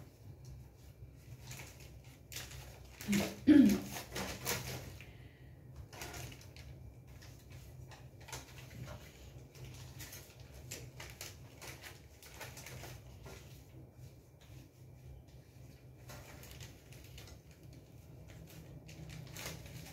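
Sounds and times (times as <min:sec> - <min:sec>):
plastic bag rustling: 0:00.0 - 0:19.9.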